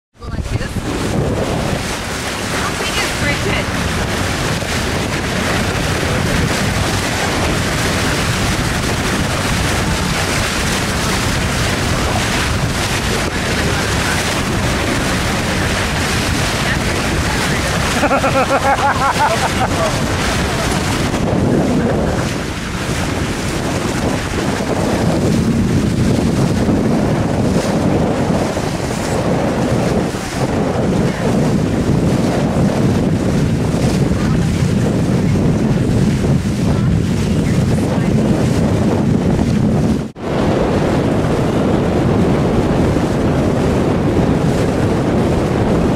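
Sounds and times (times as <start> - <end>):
water rushing against hull: 0.1 - 45.9
wind rumble on microphone: 0.1 - 45.9.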